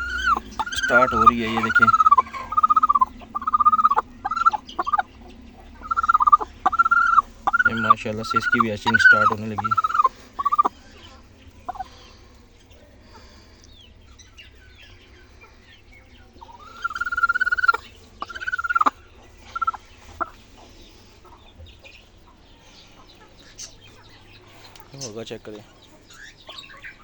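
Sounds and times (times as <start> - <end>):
chickens calling: 0.0 - 27.0
faint chirping: 0.0 - 27.0.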